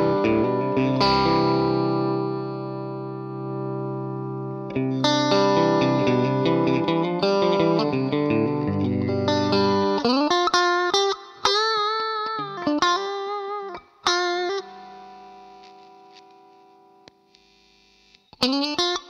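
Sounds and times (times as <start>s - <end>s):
electric guitar through effects pedal: 0.0s - 19.0s.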